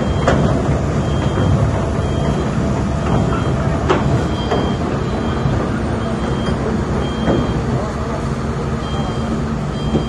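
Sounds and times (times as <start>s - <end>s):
excavator diesel engine running: 0.0s - 10.0s
steel tracks clattering: 0.0s - 10.0s.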